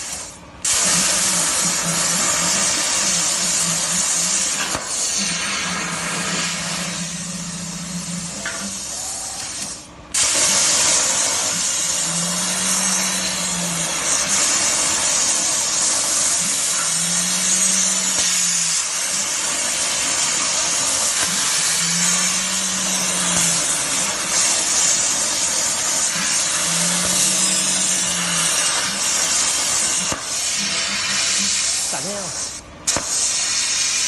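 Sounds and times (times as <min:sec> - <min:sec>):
plasma cutter hissing: 0:00.0 - 0:34.0.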